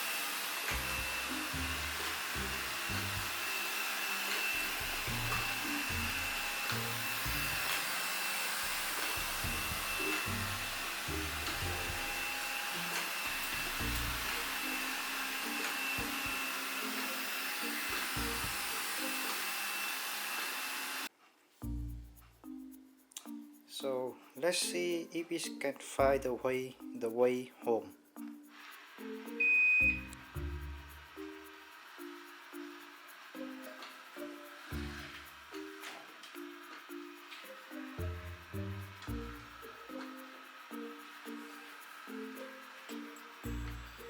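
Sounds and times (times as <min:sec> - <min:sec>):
robot vacuum running: 0:00.0 - 0:21.1, 0:28.5 - 0:44.0
background music: 0:00.7 - 0:20.2, 0:21.6 - 0:44.0.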